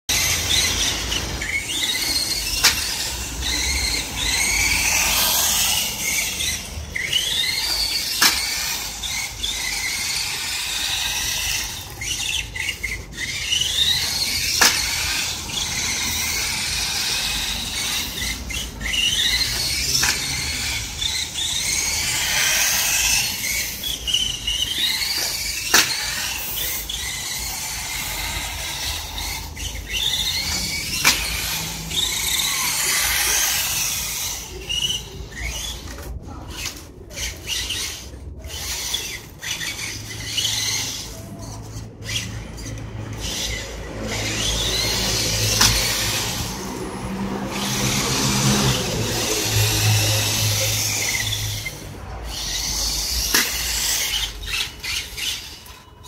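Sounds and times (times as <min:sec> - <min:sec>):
toy truck motor whining: 0:00.1 - 0:56.0.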